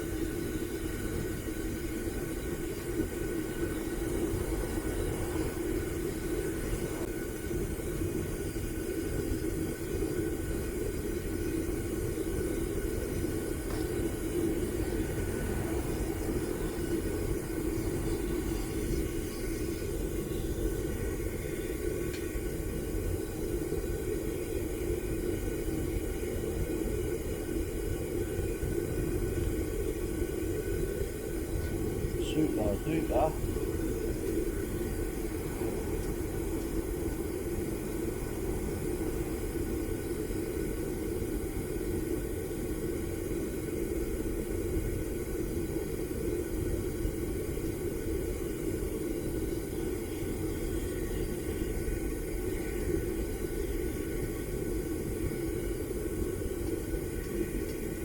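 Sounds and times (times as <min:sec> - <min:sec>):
furnace burner rumbling: 0:00.0 - 0:58.0.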